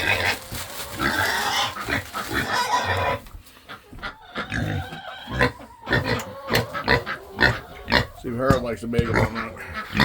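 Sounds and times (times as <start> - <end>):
pigs grunting: 0.0 - 3.3, 4.1 - 10.0.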